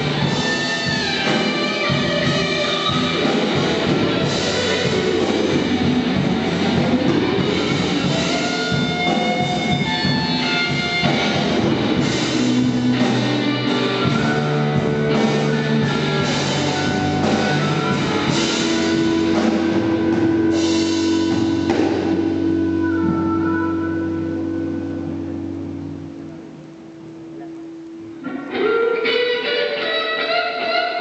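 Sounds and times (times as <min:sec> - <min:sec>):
steady drum beat: 0:00.0 - 0:25.4
held guitar notes: 0:00.0 - 0:31.0
rock band playing: 0:00.0 - 0:31.0.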